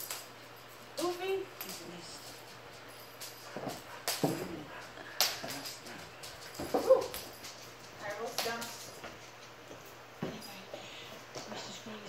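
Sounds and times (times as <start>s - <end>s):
paws thumping on floor: 0.5s - 11.6s.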